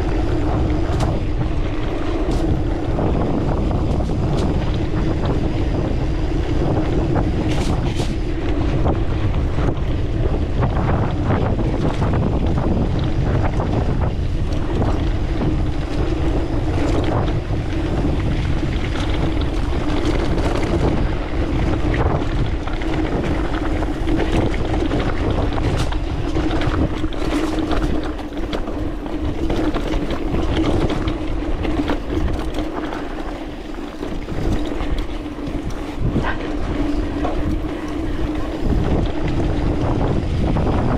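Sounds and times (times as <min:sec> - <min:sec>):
bike rattling and knocking: 0:00.0 - 0:40.9
wind rushing over microphone: 0:00.0 - 0:40.9.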